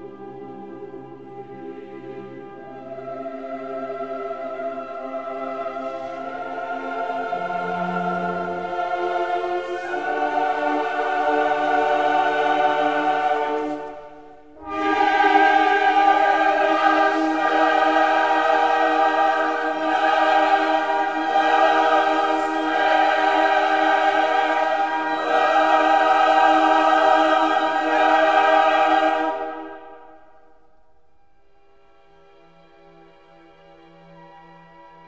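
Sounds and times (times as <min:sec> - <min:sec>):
choir-like held chords: 0:00.0 - 0:35.0.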